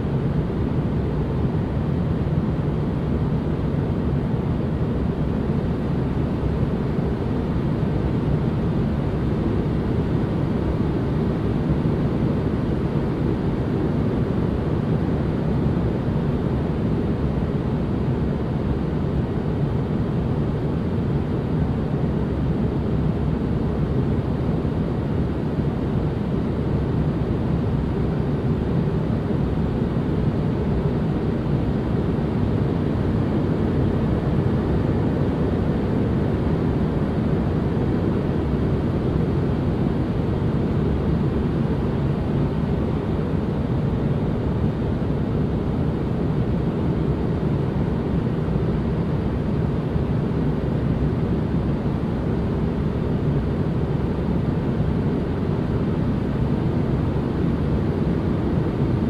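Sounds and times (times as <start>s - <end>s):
low white noise hiss: 0.0s - 59.0s.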